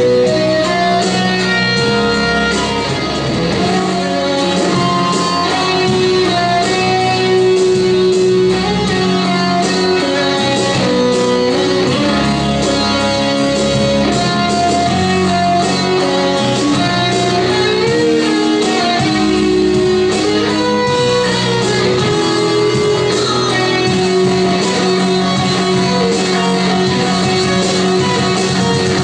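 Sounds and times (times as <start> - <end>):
electric guitar sustained notes: 0.0 - 29.0.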